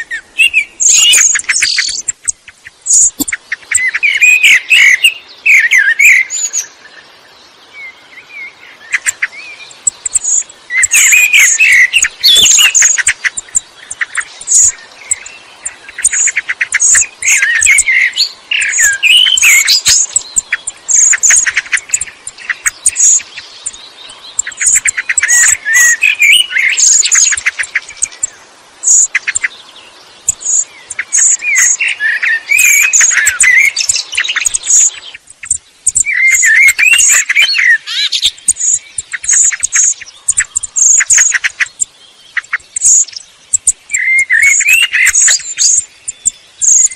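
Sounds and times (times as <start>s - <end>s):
blackbird singing: 0.0s - 46.9s.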